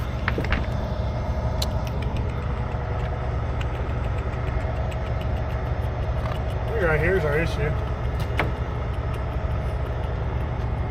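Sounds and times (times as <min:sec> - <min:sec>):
truck engine idling: 0:00.0 - 0:10.9.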